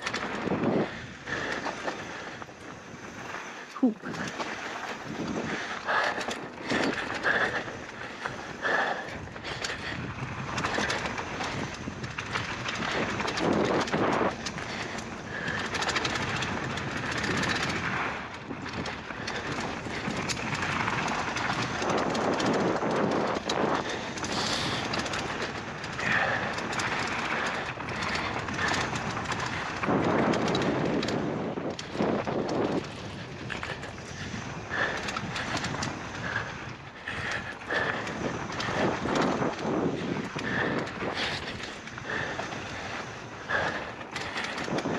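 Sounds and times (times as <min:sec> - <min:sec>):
bike rattling and knocking: 0:00.0 - 0:44.9
tyres rolling on dirt: 0:00.0 - 0:44.9.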